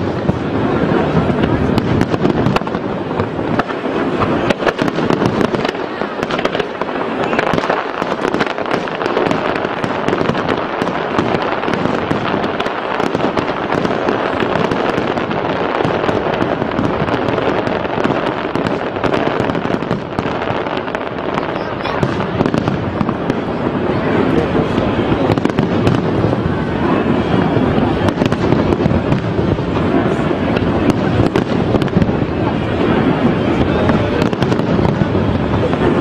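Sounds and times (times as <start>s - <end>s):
fireworks bangs and pops: 0.0s - 36.0s.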